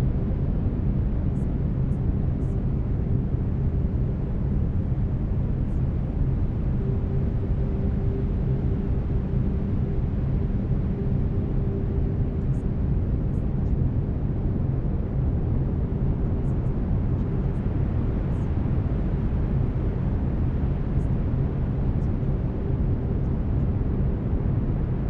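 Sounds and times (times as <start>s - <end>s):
faint steady tone: 0.0s - 25.0s.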